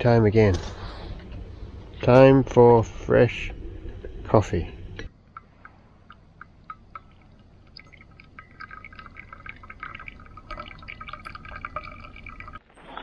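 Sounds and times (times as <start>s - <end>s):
hot water dripping into filter: 1.2s - 12.6s.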